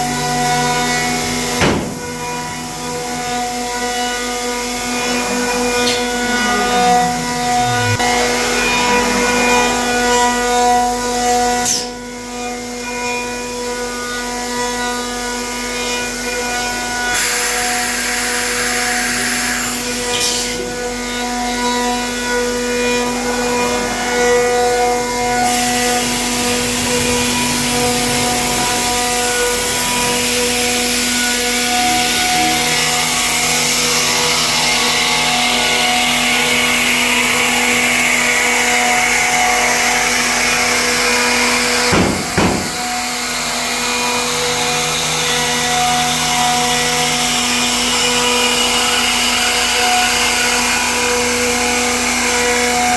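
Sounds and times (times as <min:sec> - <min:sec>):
router spindle whine: 0:00.0 - 0:52.9
cutter hissing in wood: 0:00.2 - 0:10.4, 0:16.8 - 0:21.0, 0:24.5 - 0:52.9.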